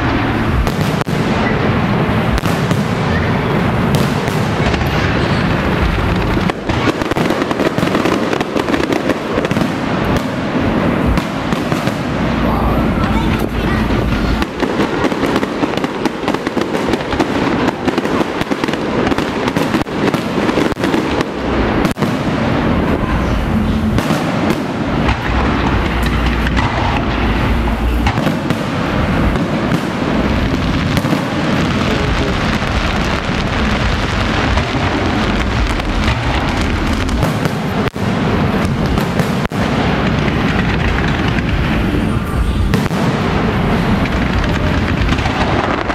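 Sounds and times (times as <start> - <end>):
fireworks bangs and booms: 0.0 - 45.9
fireworks crackling: 0.0 - 45.9.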